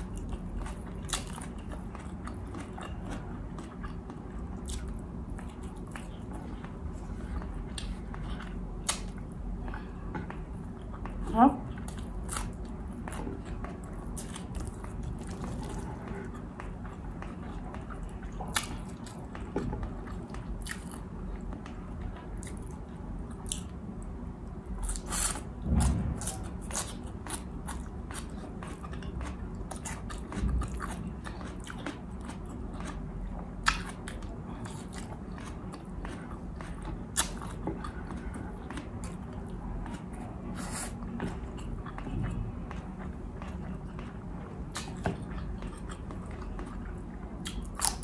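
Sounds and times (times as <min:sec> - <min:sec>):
wet chewing and mouth smacks: 0:00.0 - 0:23.8, 0:24.6 - 0:48.0
steady low hum: 0:00.0 - 0:48.0.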